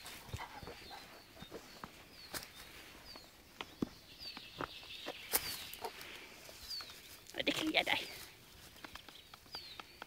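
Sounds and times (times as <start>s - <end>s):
small birds chirping: 0.0s - 10.0s
rustles and taps on dry grass: 1.4s - 10.0s.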